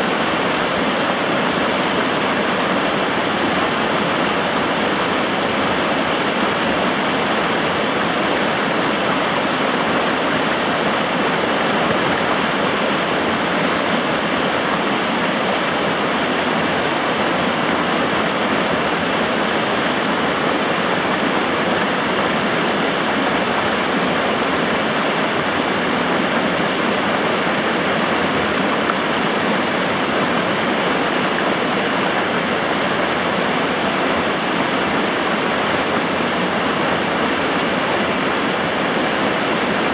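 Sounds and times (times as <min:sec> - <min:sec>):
river rushing over riffles: 0:00.0 - 0:39.9.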